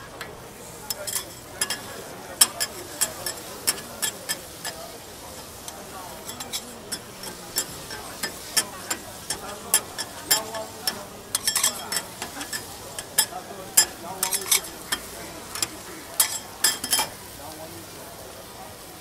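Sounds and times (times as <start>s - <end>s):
prawns sizzling: 0.0s - 19.0s
metal spatulas clacking on griddle: 0.9s - 17.2s.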